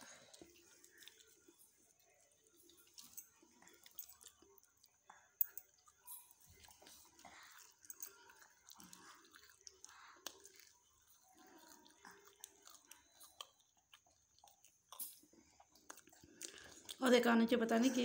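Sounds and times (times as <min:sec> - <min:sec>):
chewing and crunching food: 0:00.0 - 0:18.0.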